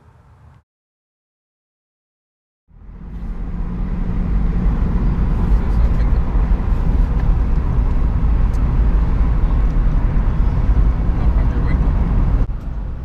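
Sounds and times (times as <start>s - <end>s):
vehicle engine and road noise: 0.0s - 0.6s, 2.7s - 13.0s.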